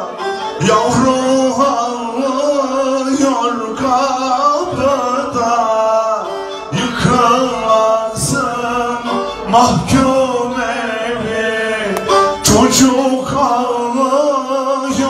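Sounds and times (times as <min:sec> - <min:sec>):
man singing into a microphone: 0:00.0 - 0:15.0
string instruments melody: 0:00.0 - 0:15.0.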